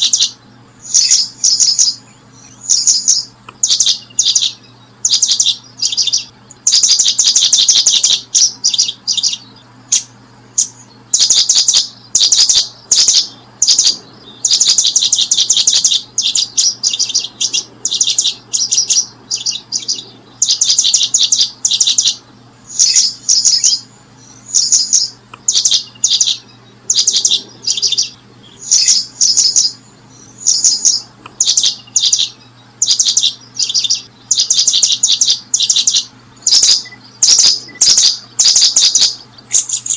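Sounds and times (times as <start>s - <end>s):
faint low hum: 0.0s - 39.9s
small bird chirping: 0.0s - 39.9s.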